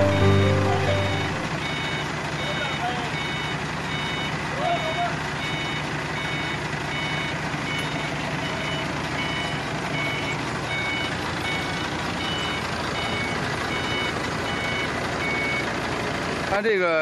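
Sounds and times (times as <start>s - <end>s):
forklift engine running: 0.0s - 4.5s, 5.2s - 16.5s
reversing alarm beeping: 0.0s - 15.8s.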